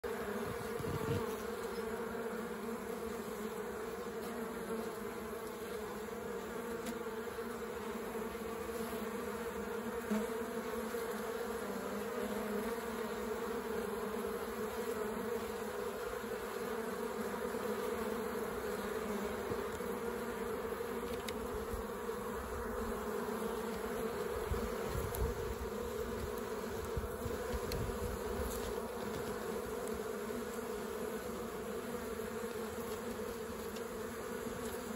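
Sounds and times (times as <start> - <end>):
honeybees humming: 0.0 - 34.9.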